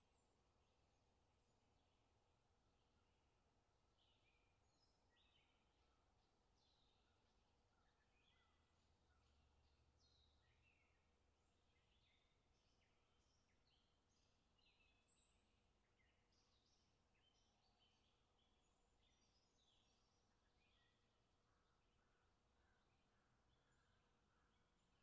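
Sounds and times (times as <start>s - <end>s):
faint songbirds chirping: 0.0s - 25.0s.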